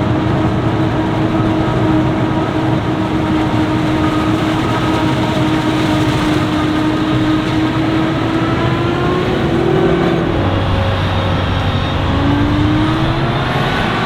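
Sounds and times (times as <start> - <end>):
tractor engines: 0.0 - 14.0.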